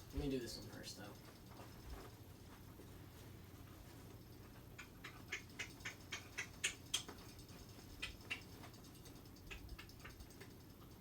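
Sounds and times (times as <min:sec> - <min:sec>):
light irregular clicks and taps: 0:00.1 - 0:11.0.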